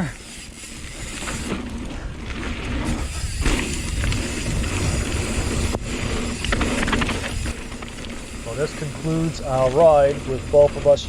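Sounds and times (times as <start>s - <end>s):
tyres rolling on dirt: 0.0s - 11.0s
wind rumbling on microphone: 0.8s - 11.0s.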